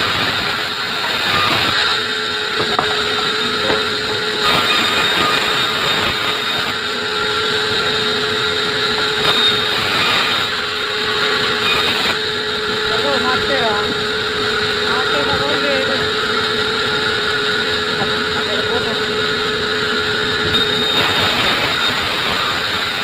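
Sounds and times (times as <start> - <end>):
saw cutting wood: 0.0 - 23.0.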